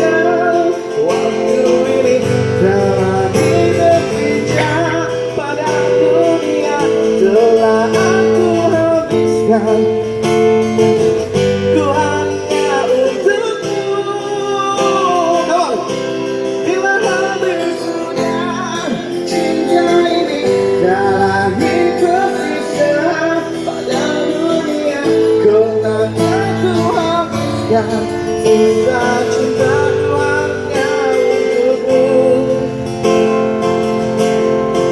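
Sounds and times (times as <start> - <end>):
guitar chords: 0.0 - 34.9.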